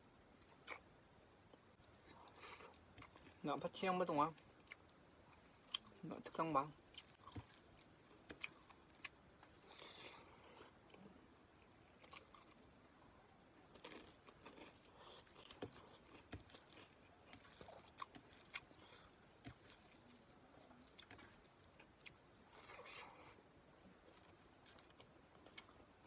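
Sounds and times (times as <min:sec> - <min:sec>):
chewing and crunching crackers: 0:00.4 - 0:00.9, 0:01.5 - 0:26.0.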